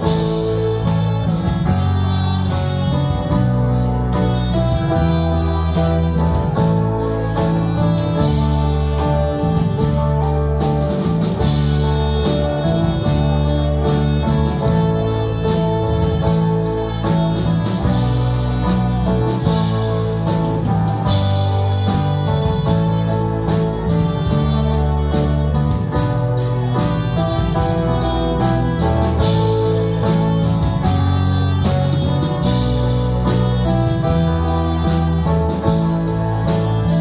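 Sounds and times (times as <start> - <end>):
instrumental worship music with guitar: 0.0 - 37.0.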